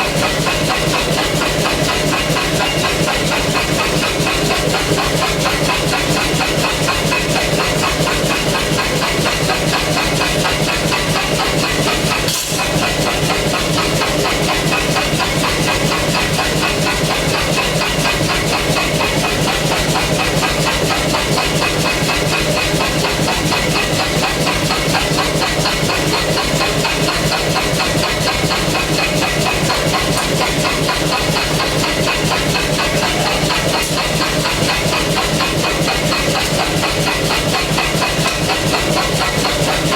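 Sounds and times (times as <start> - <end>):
pneumatic hammer blows: 0.0 - 39.9.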